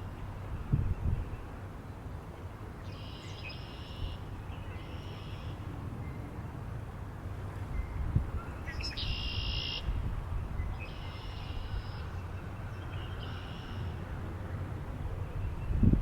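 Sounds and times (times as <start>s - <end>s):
wind rumbling on microphone: 0.0s - 2.7s, 5.6s - 16.0s.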